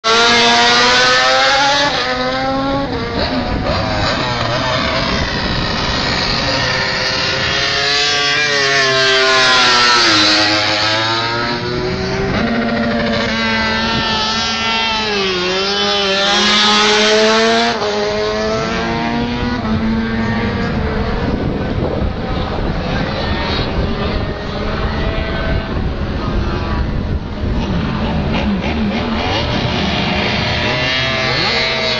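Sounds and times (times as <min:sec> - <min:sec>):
race motorcycles at high revs: 0:00.0 - 0:31.9
motorcycle passing by: 0:00.1 - 0:31.9.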